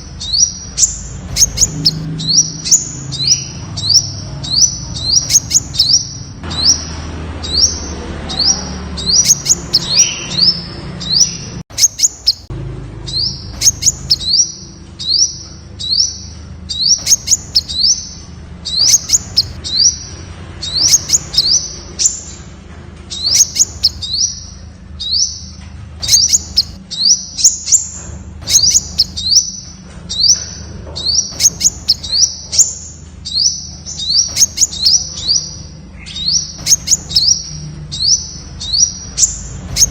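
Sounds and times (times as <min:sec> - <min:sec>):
bird calling high sharp notes: 0:00.0 - 0:12.5, 0:13.1 - 0:22.4, 0:23.1 - 0:39.9.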